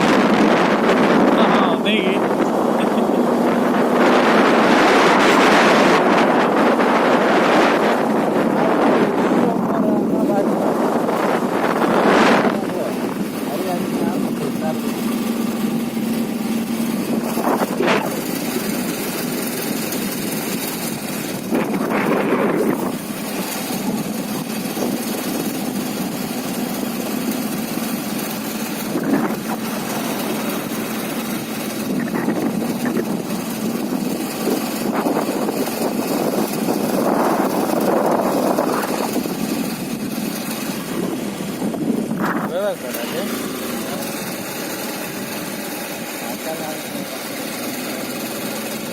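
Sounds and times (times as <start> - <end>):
motorcycle engine running: 0.0 - 48.9
steady rushing noise: 0.0 - 48.9.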